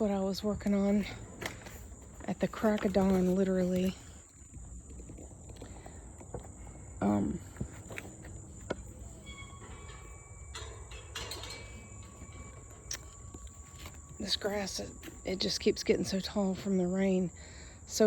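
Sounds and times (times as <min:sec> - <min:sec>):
rustling: 0:00.0 - 0:16.2
insects trilling: 0:00.0 - 0:18.0.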